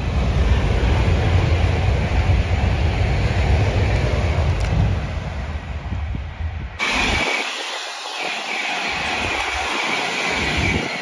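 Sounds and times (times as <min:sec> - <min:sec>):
distant train: 0:00.0 - 0:11.0
electric train passing at speed: 0:00.0 - 0:11.0
wind buffeting the microphone: 0:00.0 - 0:11.0.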